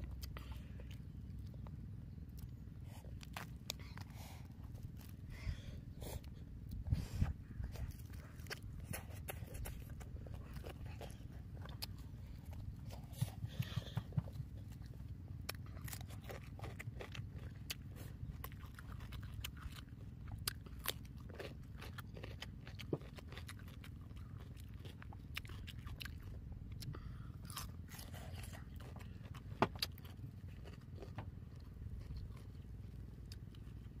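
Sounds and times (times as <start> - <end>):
low steady rumble: 0.0 - 34.0
person chewing food: 0.0 - 34.0.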